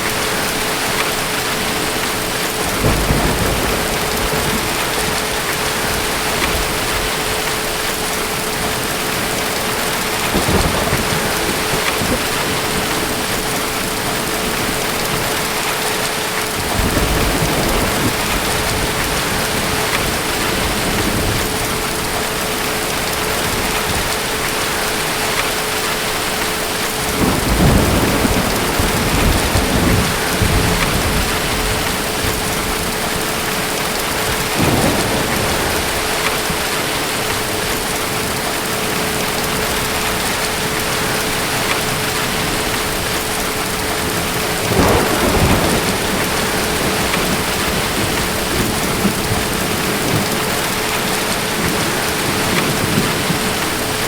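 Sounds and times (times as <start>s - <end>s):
distant thunder rumbling: 0.0s - 25.5s, 26.6s - 54.0s
heavy rain: 0.0s - 54.0s.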